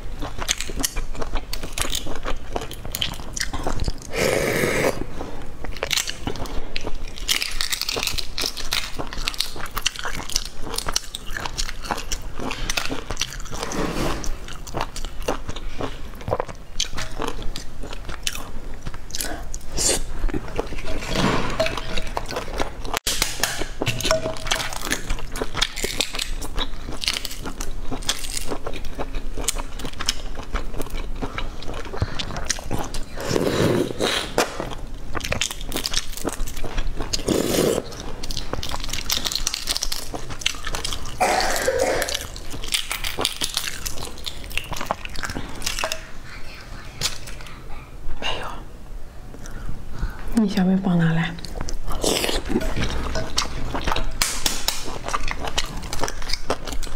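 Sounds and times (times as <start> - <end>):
chewing: 0.0 - 47.8, 51.4 - 56.9.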